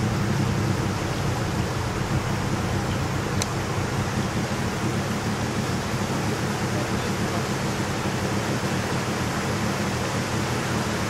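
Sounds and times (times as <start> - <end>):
water rushing over rapids: 0.0 - 11.0.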